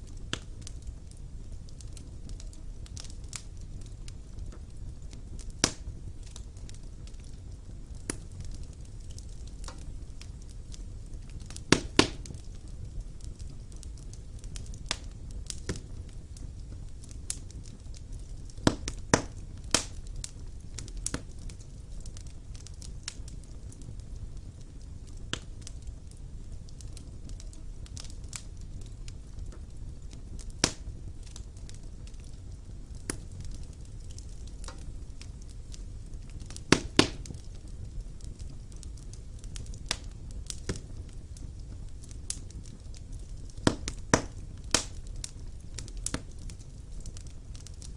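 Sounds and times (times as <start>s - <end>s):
fire crackling and popping: 0.0s - 47.9s
fire rumbling: 0.0s - 47.9s.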